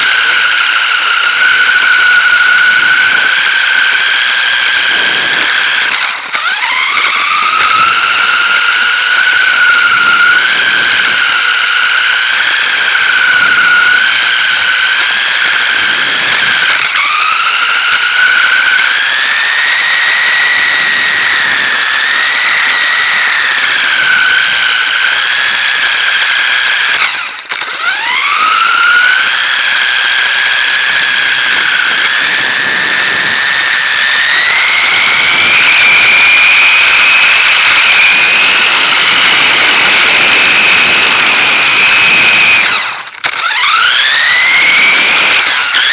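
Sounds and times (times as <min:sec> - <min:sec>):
electric toy car motor whining: 0:00.0 - 0:45.9.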